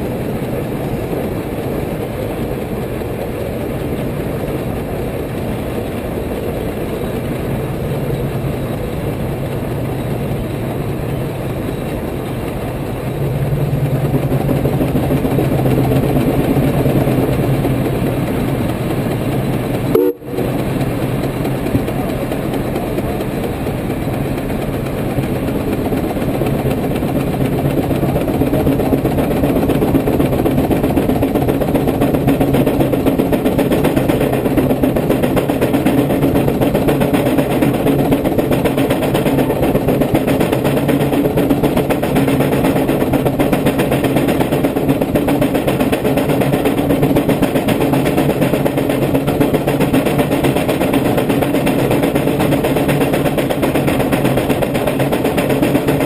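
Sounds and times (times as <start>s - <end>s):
steam traction engine exhaust: 0.0s - 56.0s.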